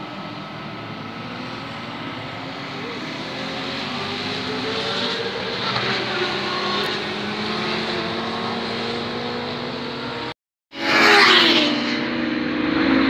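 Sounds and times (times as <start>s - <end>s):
motorcycle engines droning: 0.0s - 13.0s
motorcycle passing at high speed: 0.0s - 13.0s.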